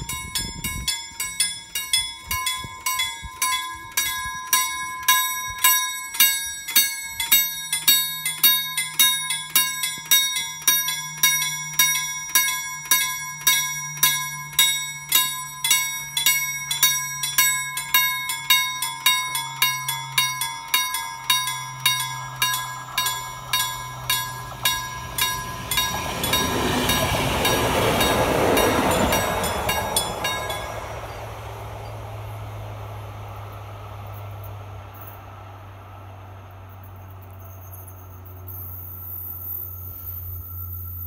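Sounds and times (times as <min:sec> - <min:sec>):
level crossing bells ringing: 0:00.0 - 0:35.3
train wheels on rails: 0:00.0 - 0:41.0.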